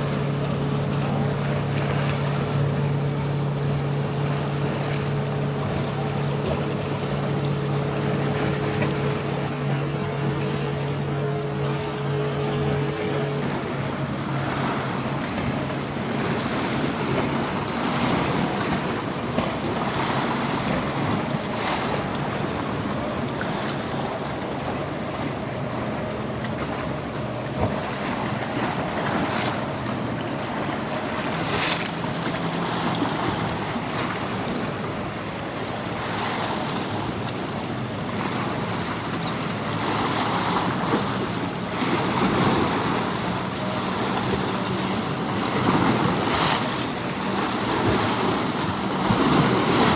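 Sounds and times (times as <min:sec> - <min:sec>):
low boat engine drone: 0:00.0 - 0:49.9
surf washing against a jetty: 0:00.0 - 0:49.9.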